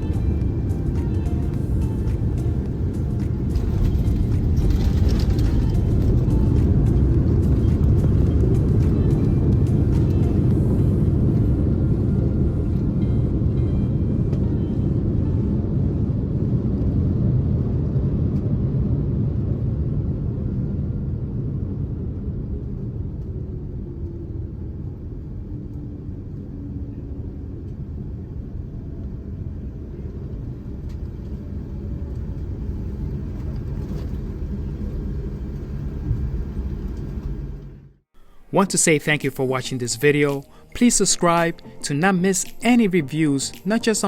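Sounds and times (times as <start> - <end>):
airliner cabin rumble: 0.0 - 39.2.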